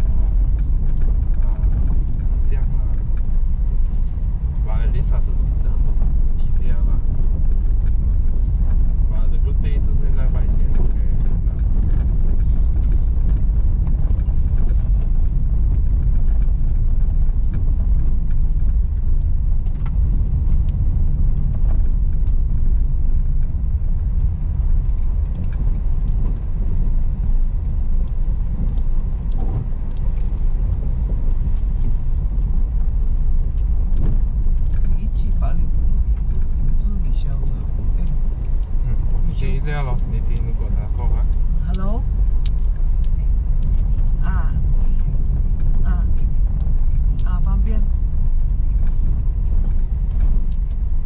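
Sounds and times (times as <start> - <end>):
car tyres and engine rumbling: 0.0 - 51.0.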